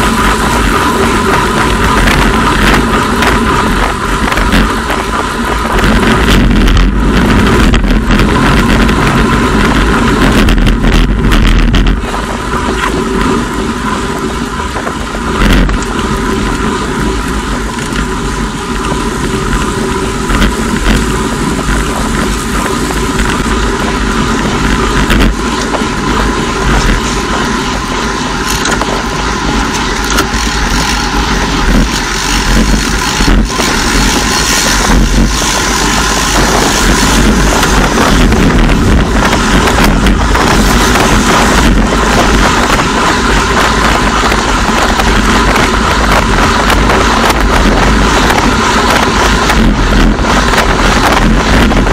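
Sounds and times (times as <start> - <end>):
bike tyre noise: 0.0 - 51.9
faint steady whine: 0.0 - 51.9
wind buffeting microphone: 0.0 - 51.9.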